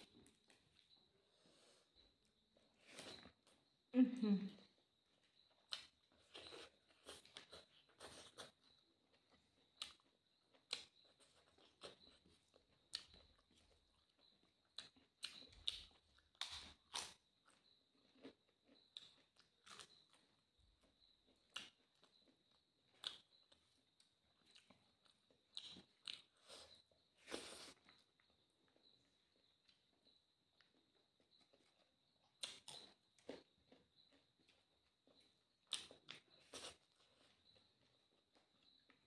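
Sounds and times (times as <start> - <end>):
mouth chewing and smacking: 4.9 - 39.0.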